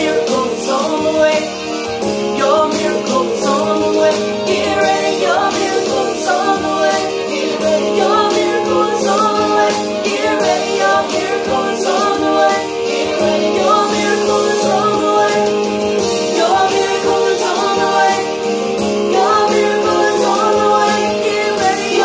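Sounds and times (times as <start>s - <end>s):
woman singing gospel song: 0.0s - 1.7s, 2.3s - 22.0s
electronic keyboard chords: 0.0s - 22.0s.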